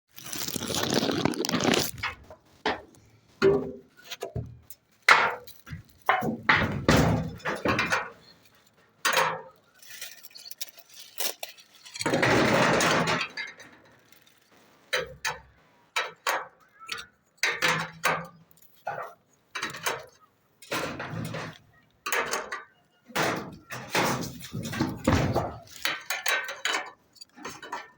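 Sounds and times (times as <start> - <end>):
hard parts clinking and knocking: 1.6 - 27.9.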